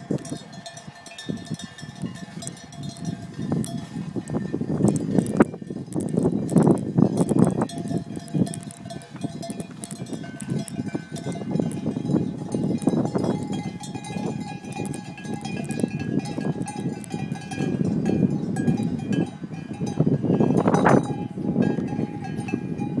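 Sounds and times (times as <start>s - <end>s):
sheep bells clanking: 0.0s - 23.0s.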